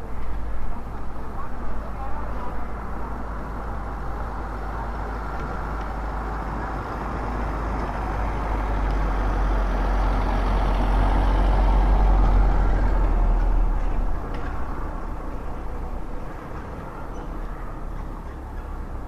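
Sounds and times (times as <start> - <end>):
street ambience: 0.0 - 19.0
vehicle engine rumble: 0.0 - 19.0.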